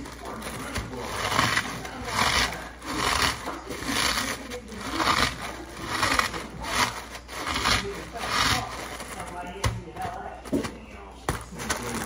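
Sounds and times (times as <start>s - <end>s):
cereal crunching: 0.0s - 12.0s
plastic bag crinkling: 0.0s - 12.0s.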